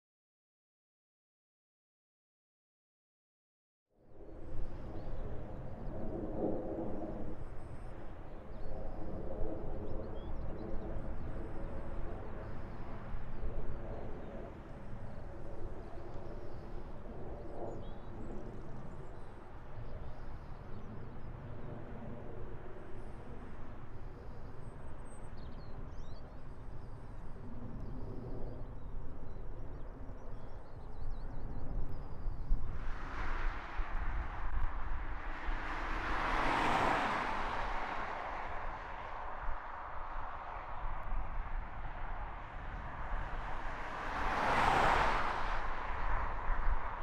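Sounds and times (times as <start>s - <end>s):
distant engine hum: 4.2s - 47.0s.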